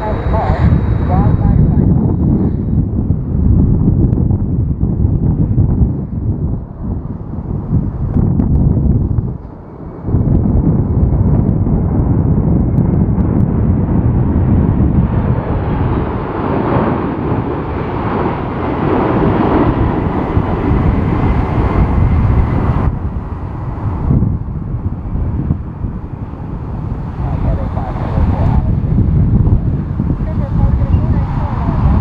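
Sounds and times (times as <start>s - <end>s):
jet engine whine: 0.0s - 32.0s
wind rumble on microphone: 0.0s - 32.0s.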